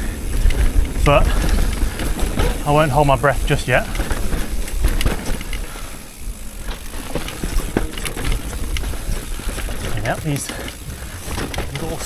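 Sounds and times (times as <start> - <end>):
bike knocks and rattles: 0.0 - 12.0
bike tyre rumble on dirt: 0.0 - 12.0.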